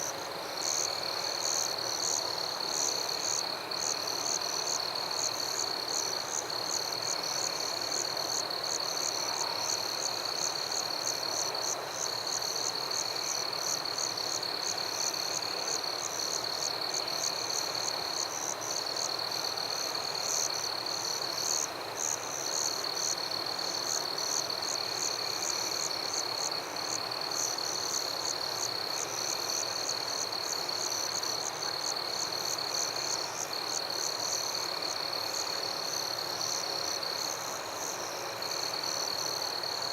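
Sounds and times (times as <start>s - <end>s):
insect chirps: 0.0s - 39.9s.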